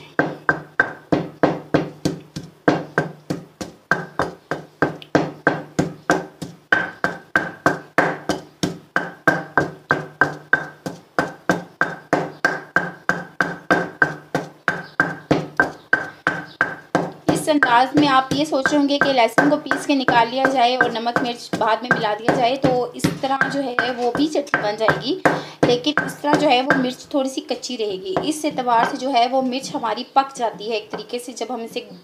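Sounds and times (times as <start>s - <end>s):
pestle pounding in stone mortar: 0.0s - 29.9s.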